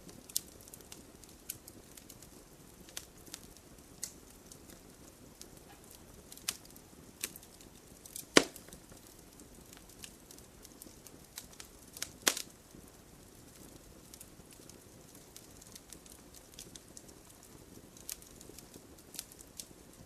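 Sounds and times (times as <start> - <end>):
campfire crackling: 0.0 - 20.0
faint steady hiss: 0.0 - 20.0.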